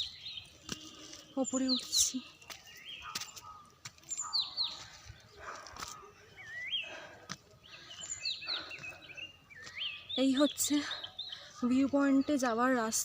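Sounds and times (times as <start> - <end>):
birds whistling: 0.0 - 5.6, 6.2 - 12.4
footsteps crunching on path: 0.0 - 12.5.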